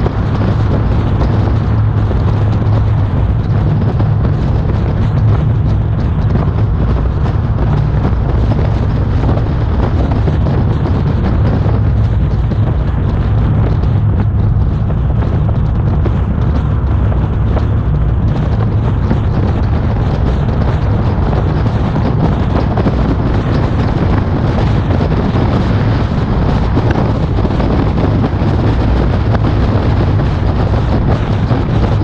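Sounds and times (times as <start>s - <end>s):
car engine: 0.0s - 32.0s
wind rushing over microphone: 0.0s - 32.0s.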